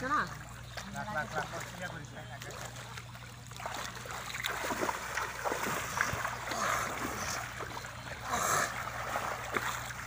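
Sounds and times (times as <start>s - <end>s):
shallow water sloshing: 0.0s - 10.0s.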